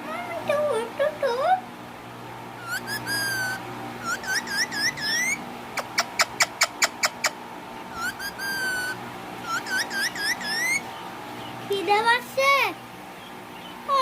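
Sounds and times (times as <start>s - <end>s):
parakeet chirping: 2.6s - 13.8s.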